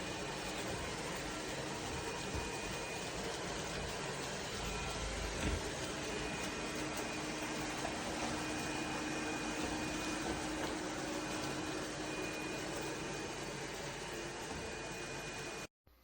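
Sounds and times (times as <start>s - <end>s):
robot vacuum whirring: 0.0s - 15.7s.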